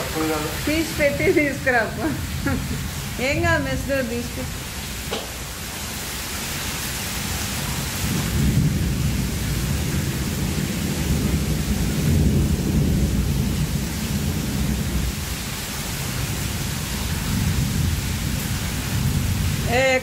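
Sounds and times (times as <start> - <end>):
thunder rumbling: 0.0 - 4.8, 7.8 - 20.0
heavy rain pouring: 0.0 - 20.0.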